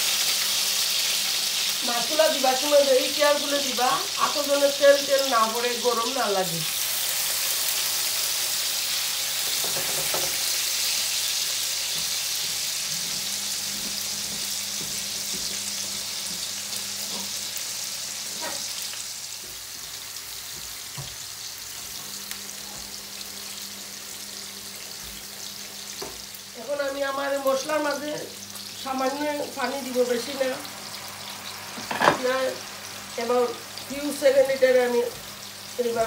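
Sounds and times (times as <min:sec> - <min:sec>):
fish frying in hot oil: 0:00.0 - 0:36.0.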